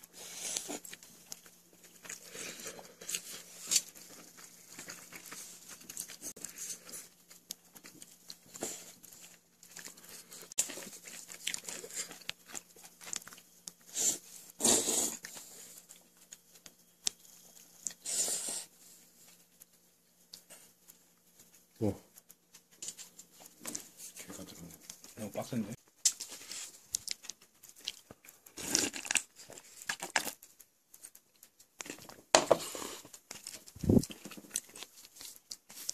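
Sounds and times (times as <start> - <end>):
chewing: 0.0 - 35.9.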